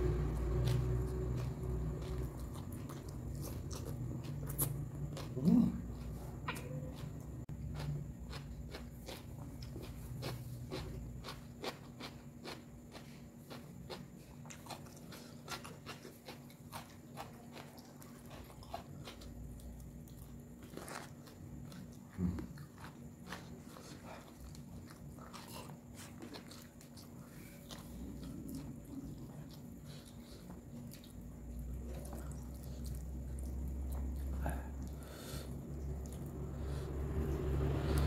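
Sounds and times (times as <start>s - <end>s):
chewing and crunching vegetables: 0.0s - 38.0s.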